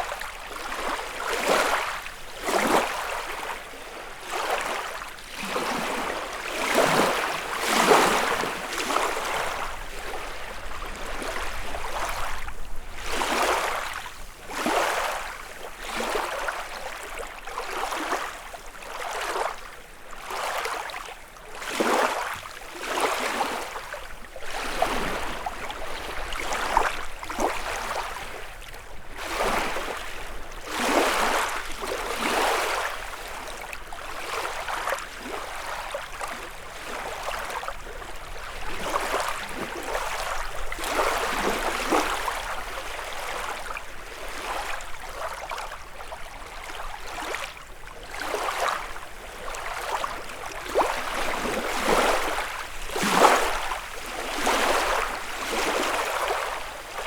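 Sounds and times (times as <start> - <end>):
lake waves lapping on shore: 0.0 - 57.0.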